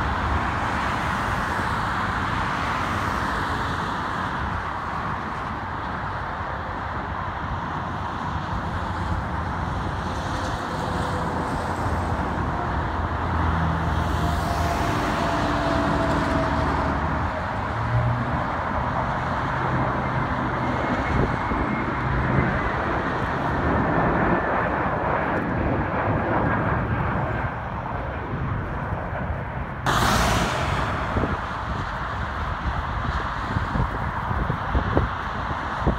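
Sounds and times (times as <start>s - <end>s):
jet airliners passing overhead: 0.0s - 35.9s.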